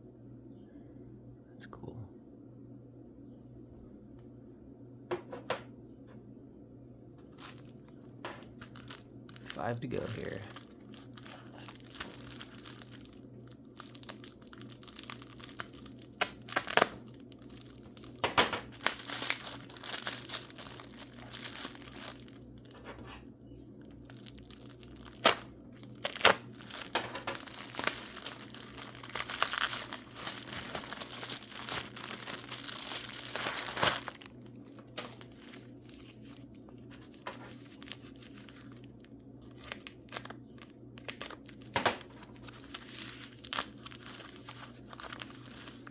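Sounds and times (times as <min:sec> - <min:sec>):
packing wrap tearing and crinkling: 0:07.2 - 0:45.9.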